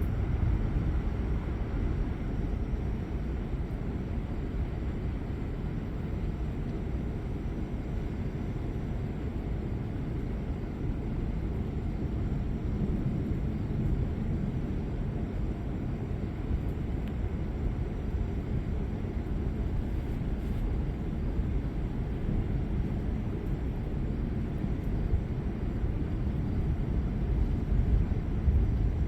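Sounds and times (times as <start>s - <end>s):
low rumble of thunderstorm: 0.0s - 29.0s.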